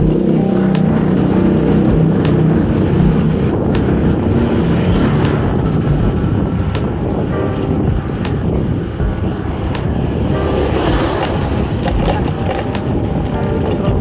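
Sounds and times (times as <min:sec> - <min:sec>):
faint regular ticking: 0:00.0 - 0:14.0
nearby engines running: 0:00.0 - 0:14.0
traffic rumble: 0:00.0 - 0:14.0
wind on microphone: 0:00.0 - 0:14.0.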